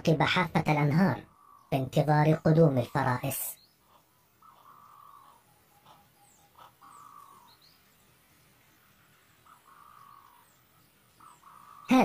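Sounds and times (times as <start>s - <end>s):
high bird chirps: 1.2s - 12.0s.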